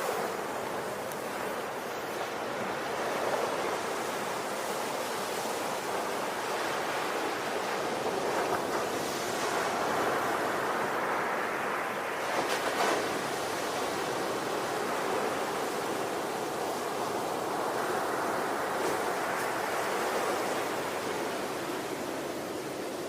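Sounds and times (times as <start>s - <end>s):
waves breaking on shore: 0.0s - 23.0s.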